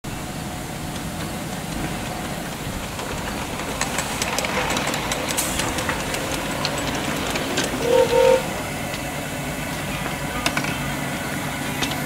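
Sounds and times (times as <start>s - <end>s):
miniature steam locomotive rumbling: 0.1s - 12.0s.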